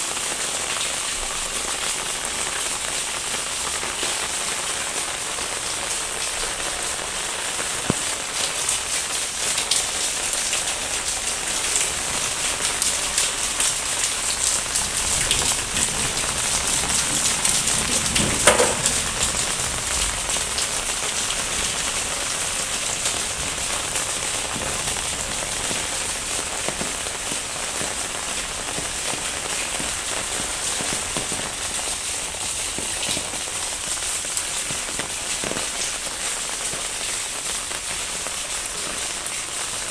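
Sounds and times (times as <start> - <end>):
rain on wet paving: 0.0 - 39.9.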